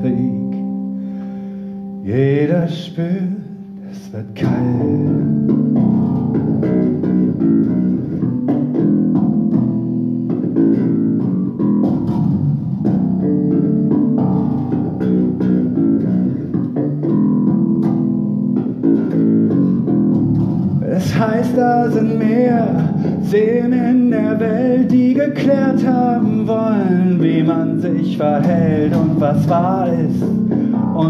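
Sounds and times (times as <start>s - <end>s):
electric bass guitar: 0.0s - 31.0s.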